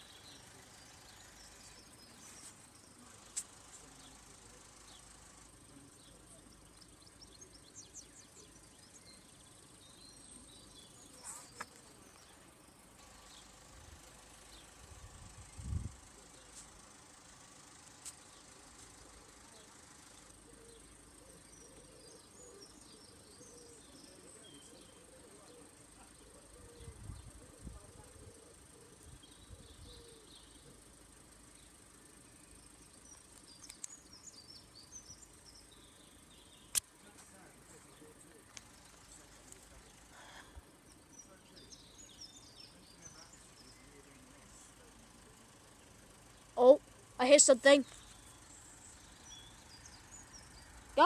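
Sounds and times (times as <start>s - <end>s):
faint high-pitched hiss: 0.0s - 51.0s
small birds chirping: 0.0s - 51.0s.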